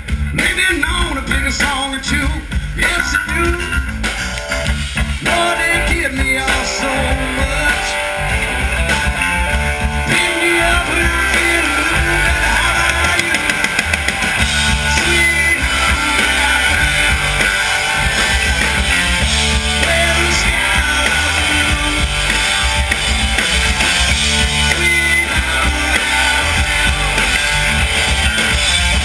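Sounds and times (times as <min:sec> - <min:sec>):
drum kit: 0:00.0 - 0:29.0
electric guitar: 0:00.0 - 0:29.0.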